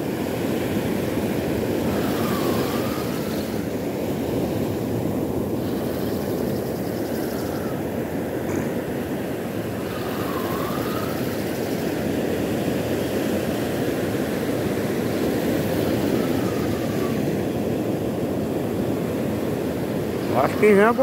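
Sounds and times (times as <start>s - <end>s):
surf breaking on beach: 0.0s - 21.0s
wind on microphone: 0.0s - 21.0s.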